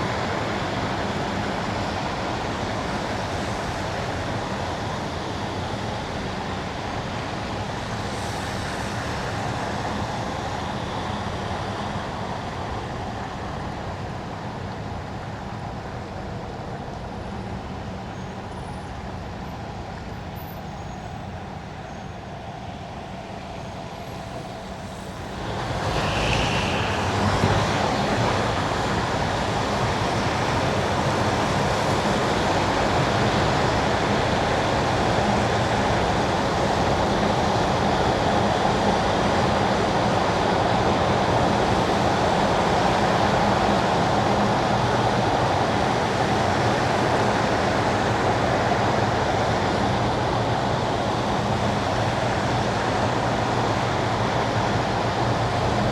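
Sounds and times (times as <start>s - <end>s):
tyres hissing on wet road: 0.0s - 16.0s, 16.8s - 55.9s.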